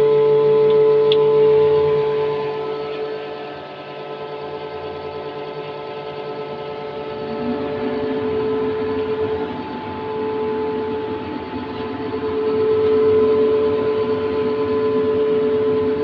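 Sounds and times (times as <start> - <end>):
fan motor hum and whine: 0.0 - 16.0.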